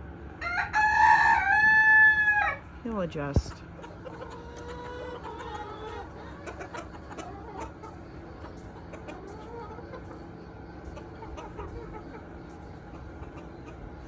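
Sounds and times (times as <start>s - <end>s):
chickens clucking and calling: 0.0s - 2.8s, 3.4s - 14.0s.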